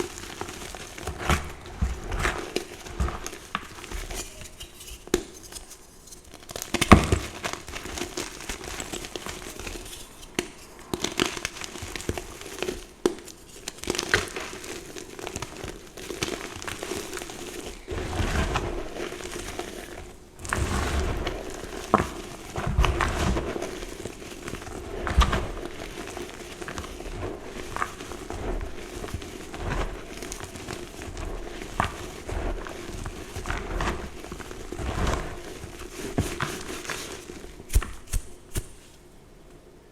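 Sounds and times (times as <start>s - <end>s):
chalk crunching and crackling: 0.0s - 39.0s.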